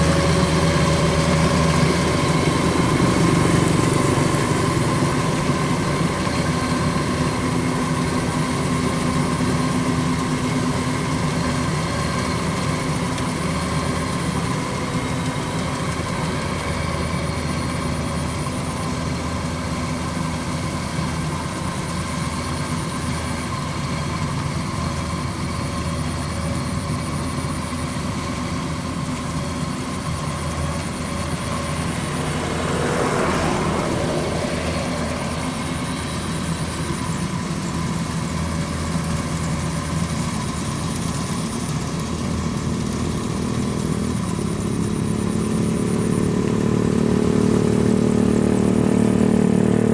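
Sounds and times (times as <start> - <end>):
combine harvester droning: 0.0 - 49.9.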